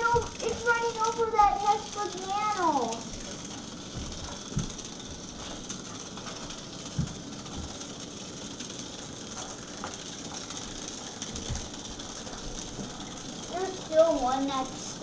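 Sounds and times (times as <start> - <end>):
toy robot bugs buzzing and rattling: 0.0 - 15.0.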